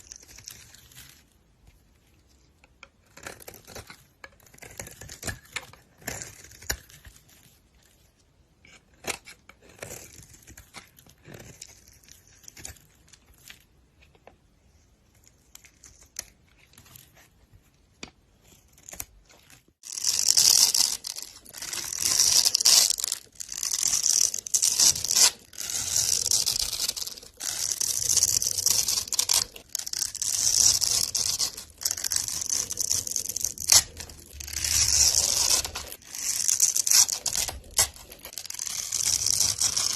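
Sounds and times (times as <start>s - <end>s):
blade scraping soap: 0.0s - 1.4s, 2.1s - 17.4s, 18.4s - 39.9s.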